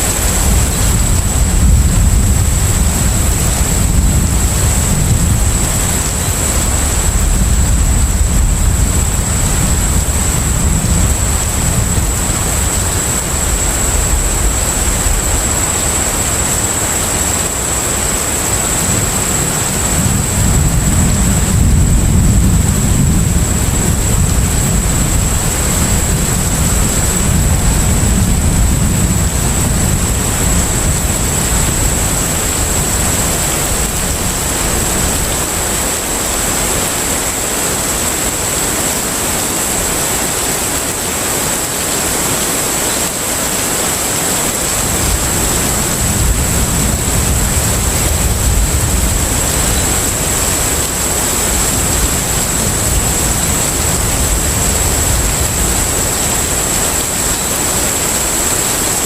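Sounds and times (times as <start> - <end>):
water and wind rushing: 0.0 - 59.0.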